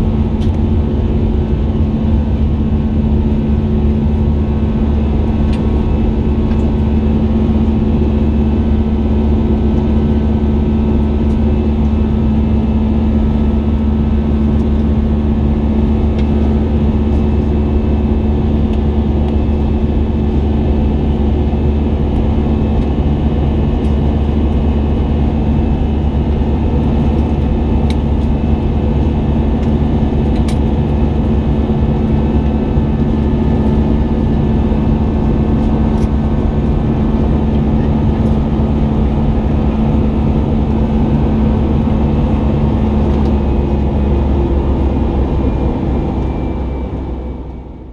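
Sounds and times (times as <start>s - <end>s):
aircraft engines droning: 0.0s - 47.9s.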